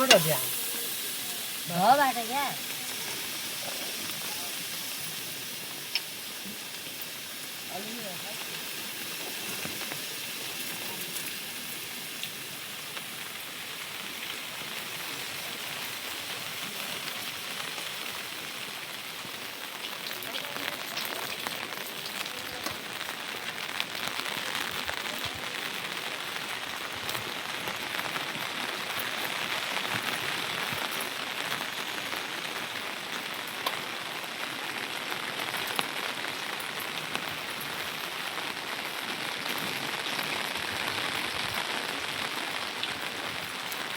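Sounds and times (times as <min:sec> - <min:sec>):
raindrops ticking: 0:00.0 - 0:43.9
steady rain: 0:00.0 - 0:43.9.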